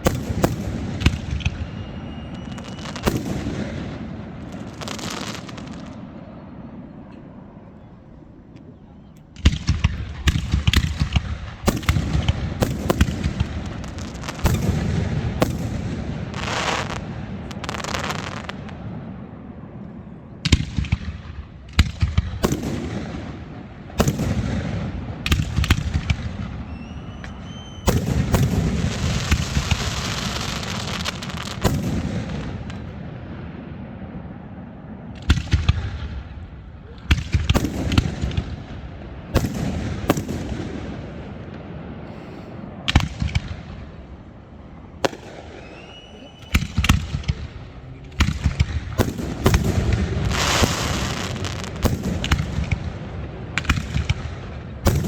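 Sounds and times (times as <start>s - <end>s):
fireworks banging: 0.0s - 6.2s, 9.2s - 19.2s, 19.8s - 34.1s, 35.1s - 55.0s
fireworks crackling: 0.0s - 6.6s, 9.2s - 34.0s, 35.0s - 55.0s
fireworks whistling: 0.0s - 7.1s, 8.9s - 18.8s, 21.8s - 33.0s, 37.1s - 55.0s.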